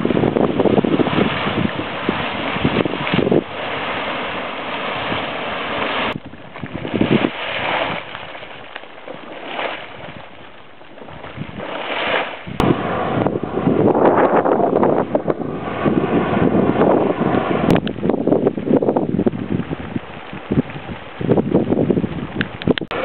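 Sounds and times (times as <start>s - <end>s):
wind buffeting microphone: 0.0s - 8.8s, 9.4s - 23.0s.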